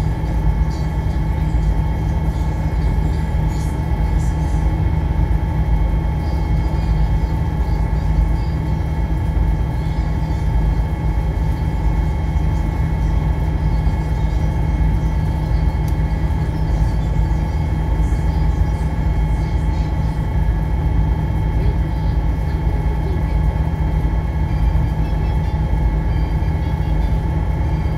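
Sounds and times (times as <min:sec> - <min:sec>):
ferry engine droning: 0:00.0 - 0:27.9
steady whine: 0:00.0 - 0:27.9.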